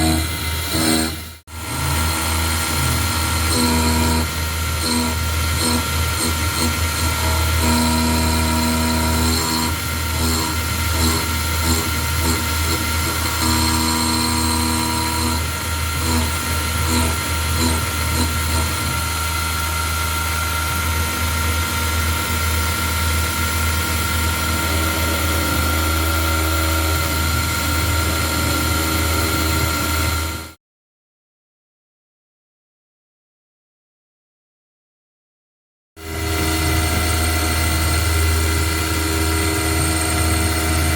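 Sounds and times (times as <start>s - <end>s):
milling machine spindle whine: 0.0s - 30.5s, 36.0s - 40.9s.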